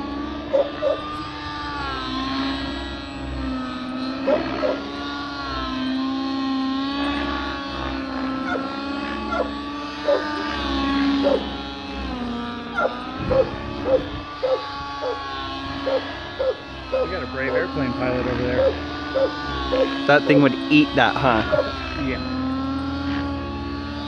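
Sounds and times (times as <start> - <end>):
model helicopter engine running: 0.0 - 24.0.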